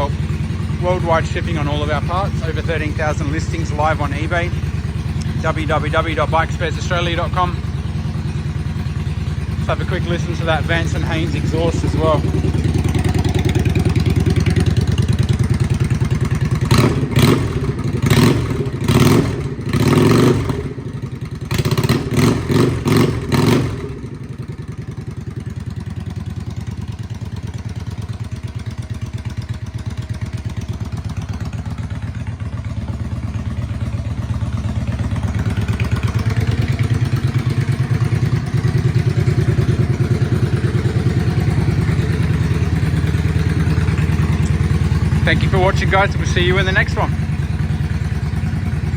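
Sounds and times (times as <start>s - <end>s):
motorcycle engine revving and idling: 0.0s - 48.9s.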